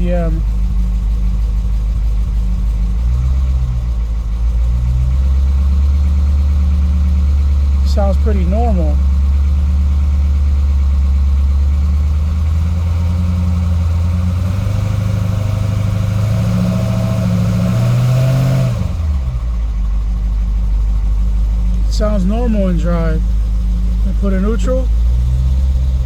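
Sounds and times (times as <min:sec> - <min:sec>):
engine revving and idling: 0:00.0 - 0:26.0.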